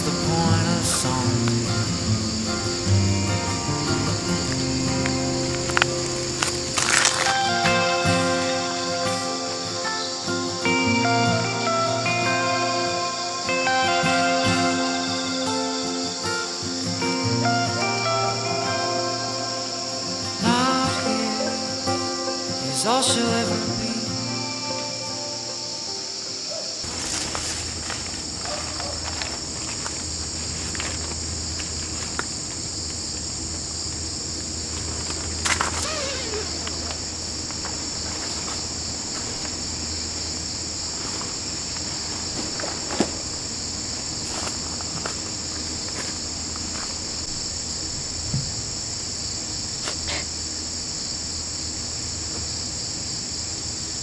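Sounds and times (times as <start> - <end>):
crickets and insects chirping: 0.0 - 54.0.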